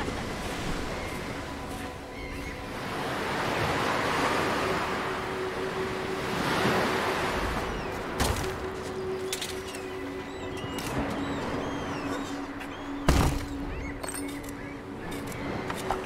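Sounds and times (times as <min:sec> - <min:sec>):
ocean waves washing ashore: 0:00.0 - 0:16.0.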